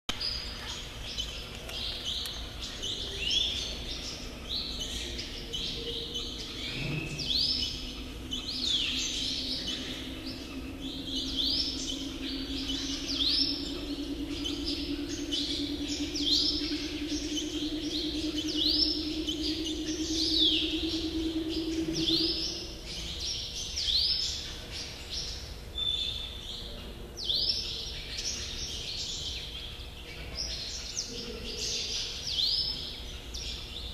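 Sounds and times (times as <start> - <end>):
low hum: 0.1 - 33.0
small birds chirping: 0.1 - 33.9.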